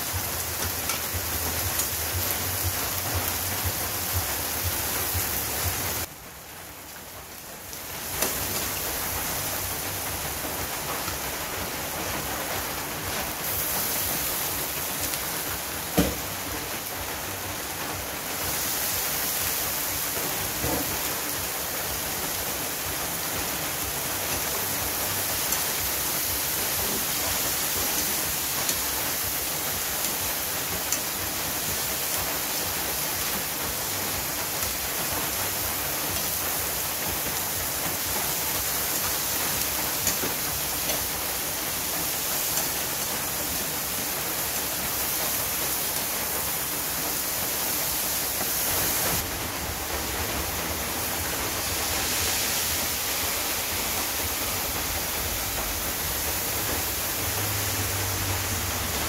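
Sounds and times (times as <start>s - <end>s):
vegetables sizzling in a wok: 0.0s - 59.0s.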